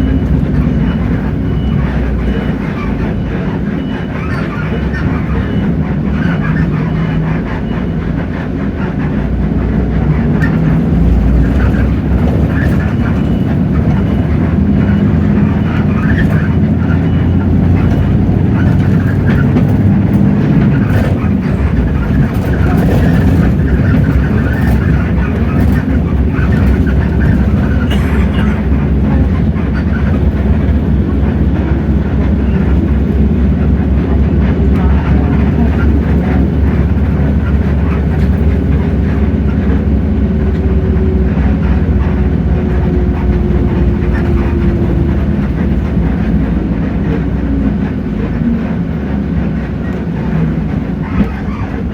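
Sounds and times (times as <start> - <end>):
bus diesel engine drone: 0.0 - 51.9.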